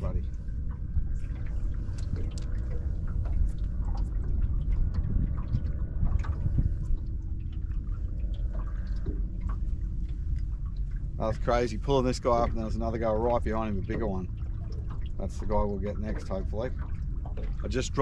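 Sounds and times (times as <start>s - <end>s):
low rumble: 0.0s - 18.0s
water splashing against boat: 0.0s - 18.0s.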